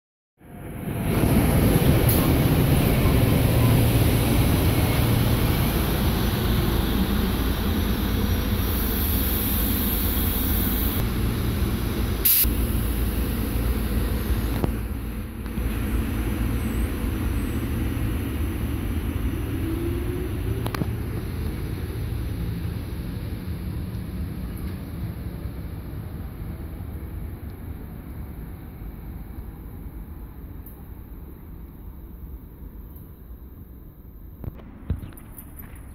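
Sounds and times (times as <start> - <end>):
train wheels rumbling on rail: 0.7 - 32.8.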